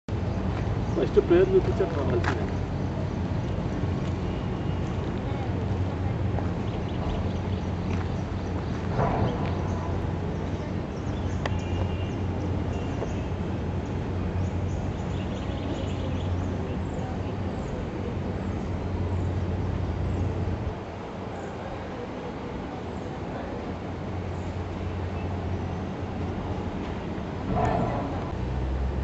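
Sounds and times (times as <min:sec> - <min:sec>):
steady low hum: 0:00.1 - 0:29.0.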